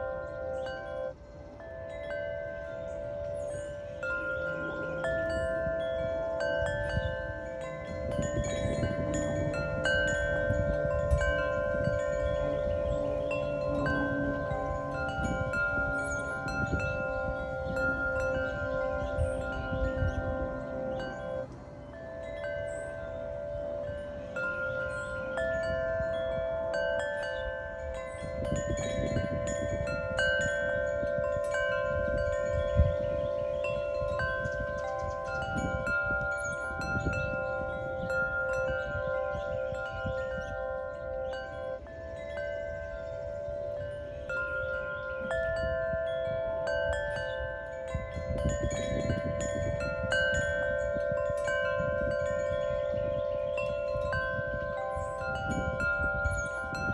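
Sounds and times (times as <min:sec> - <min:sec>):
wind chimes ringing: 0:00.0 - 0:56.9.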